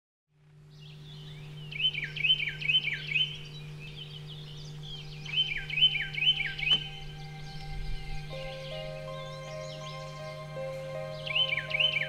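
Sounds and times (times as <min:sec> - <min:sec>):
songbird singing: 0:00.4 - 0:12.0
steady low hum: 0:00.4 - 0:12.0.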